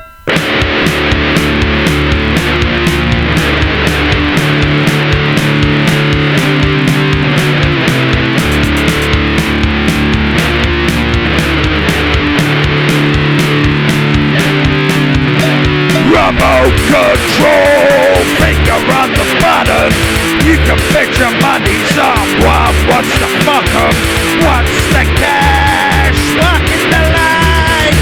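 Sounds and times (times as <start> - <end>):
drum beat: 0.0 - 28.0
electric guitar: 0.0 - 28.0.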